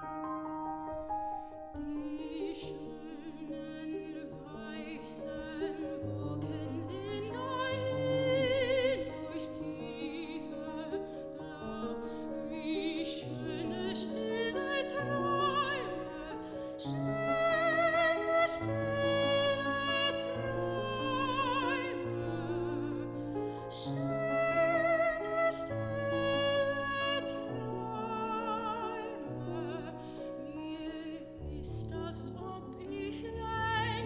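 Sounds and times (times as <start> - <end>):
piano accompaniment: 0.0 - 34.0
soprano singing with vibrato: 1.4 - 34.0.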